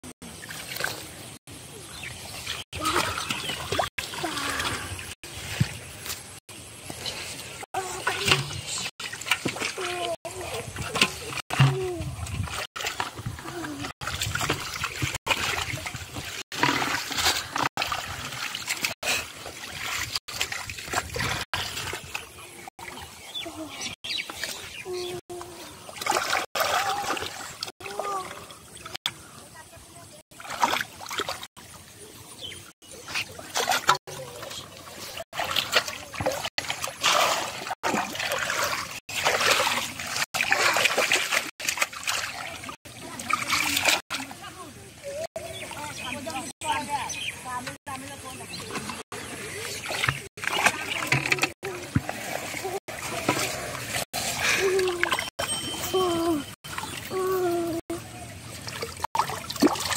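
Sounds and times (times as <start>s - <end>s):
muddy water splashing: 0.0s - 59.9s.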